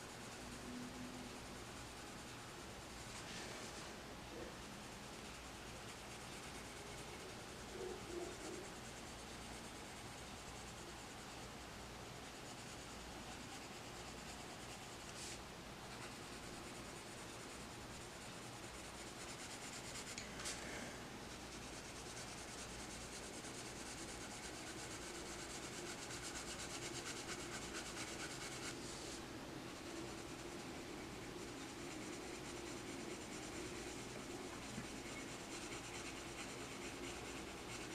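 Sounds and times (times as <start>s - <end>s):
pencil scratching on paper: 0.2s - 11.5s, 12.2s - 20.5s, 21.3s - 37.9s.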